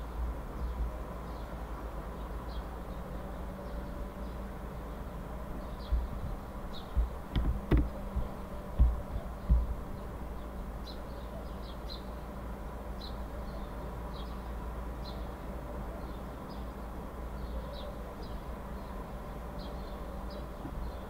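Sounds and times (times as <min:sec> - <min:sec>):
low background hum: 0:00.0 - 0:21.0
small birds chirping: 0:00.0 - 0:21.0.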